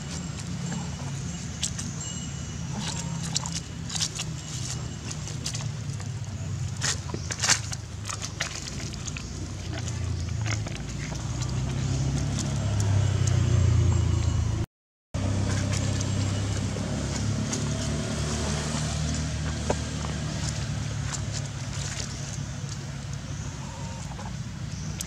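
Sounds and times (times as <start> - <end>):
low engine rumble: 0.0 - 14.6, 15.2 - 25.0.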